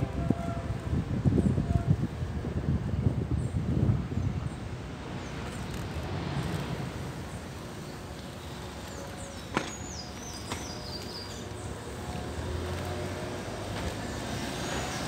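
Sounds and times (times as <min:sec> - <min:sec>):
road rumble: 0:00.0 - 0:15.0
wind: 0:00.0 - 0:15.0
bicycle rolling on asphalt: 0:02.0 - 0:15.0.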